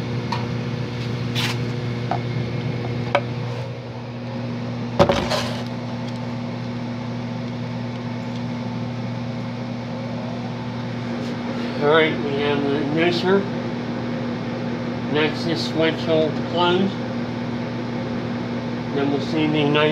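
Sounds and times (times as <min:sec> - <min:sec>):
furnace motor hum: 0:00.0 - 0:19.9.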